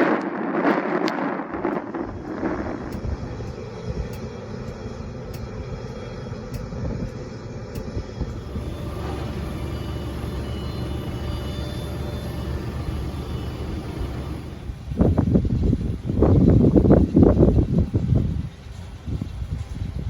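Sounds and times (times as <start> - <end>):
distant jet engine rumble: 0.0 - 20.0.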